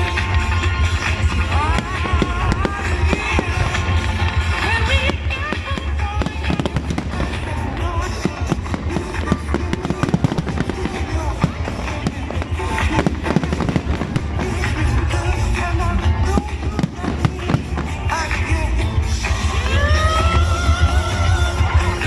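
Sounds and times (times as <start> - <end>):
fireworks bangs and crackles: 0.0 - 19.7
loud music with heavy bass: 0.0 - 22.0.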